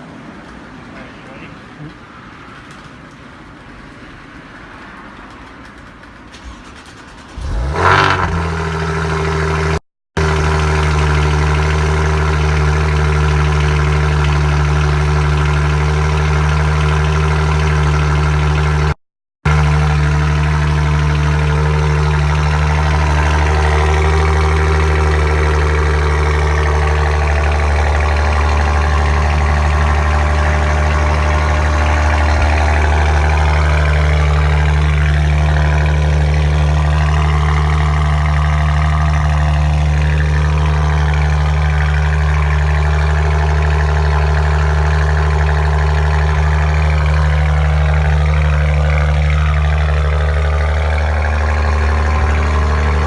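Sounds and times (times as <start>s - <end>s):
car engine idling: 5.2s - 53.0s.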